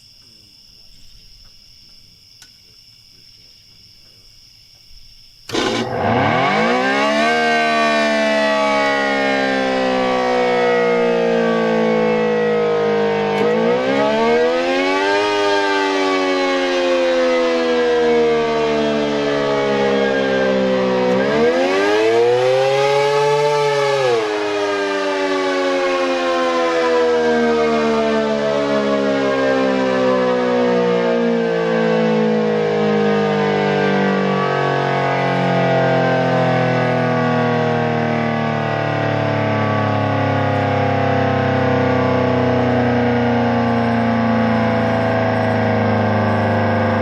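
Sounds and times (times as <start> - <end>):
warning siren wailing: 5.5 - 47.0.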